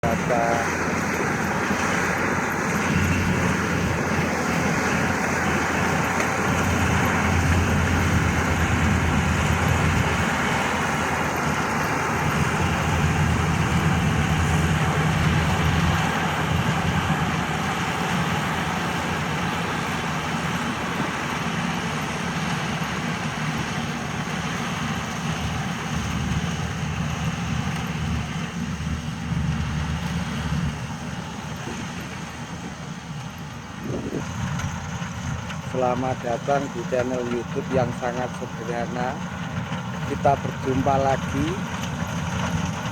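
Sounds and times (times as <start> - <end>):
machine engine droning: 0.0 - 42.9.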